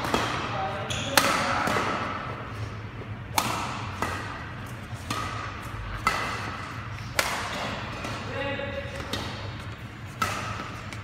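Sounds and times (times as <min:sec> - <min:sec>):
rackets hitting shuttlecock: 0:00.0 - 0:02.2, 0:03.3 - 0:11.0.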